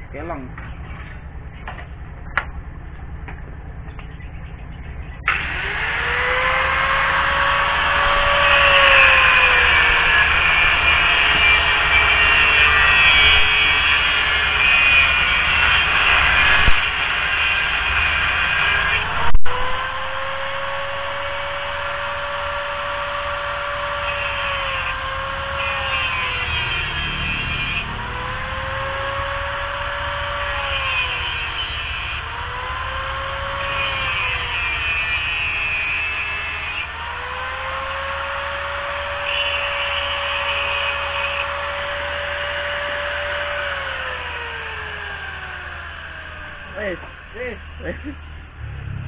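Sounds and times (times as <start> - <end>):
grinder winding down: 4.0 - 49.0
angle grinder cutting metal: 4.2 - 49.0.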